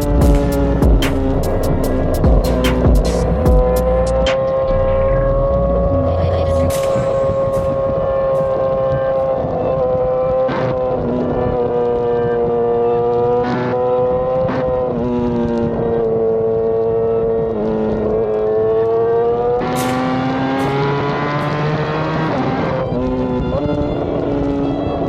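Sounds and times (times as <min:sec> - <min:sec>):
motorcycle engine running: 0:00.0 - 0:06.1, 0:06.7 - 0:24.7.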